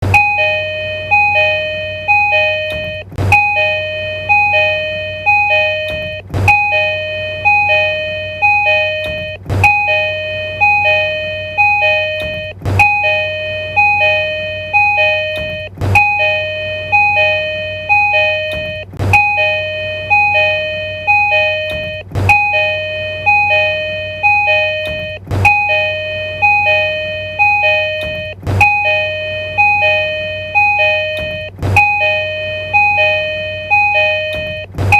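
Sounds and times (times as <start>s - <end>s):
steady low hum: 0.0s - 34.9s
train door chime: 0.0s - 34.9s.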